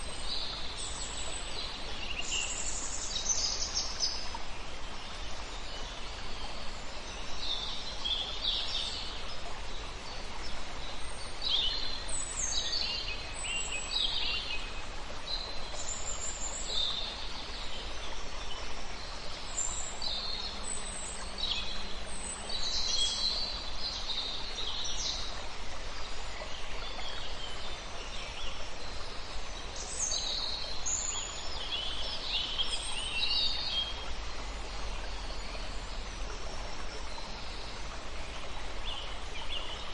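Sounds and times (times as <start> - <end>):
stream hissing: 0.0 - 39.9.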